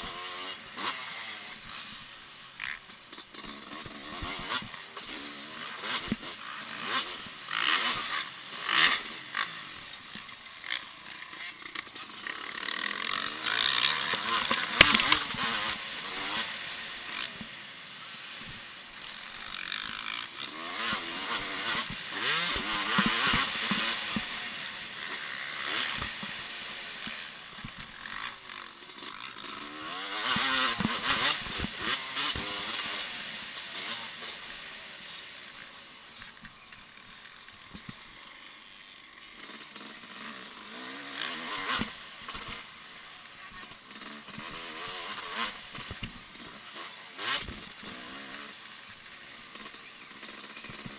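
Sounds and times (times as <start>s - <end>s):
motocross bikes revving past: 0.0s - 50.9s.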